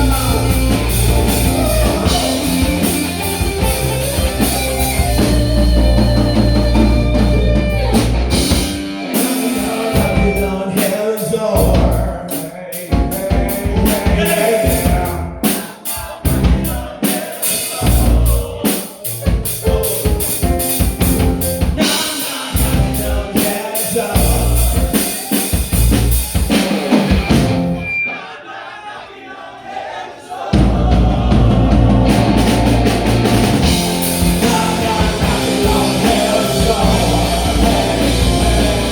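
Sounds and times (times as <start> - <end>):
rock band playing: 0.0 - 28.1, 30.6 - 38.9.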